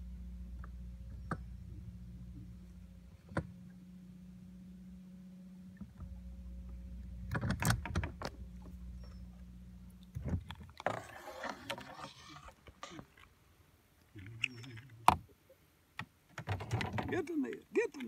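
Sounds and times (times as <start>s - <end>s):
faint whine: 0.0s - 15.2s
boat motor humming: 0.0s - 15.4s.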